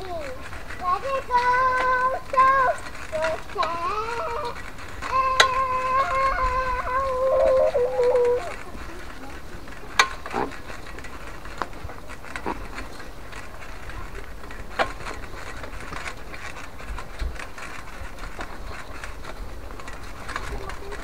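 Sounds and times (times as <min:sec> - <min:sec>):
bike knocking and rattling: 0:00.0 - 0:21.0
bike tyres rolling on dirt: 0:00.0 - 0:21.0.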